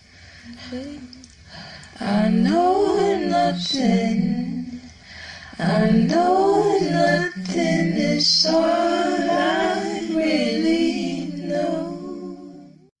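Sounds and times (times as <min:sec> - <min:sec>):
voices singing in harmony: 0:00.4 - 0:12.9.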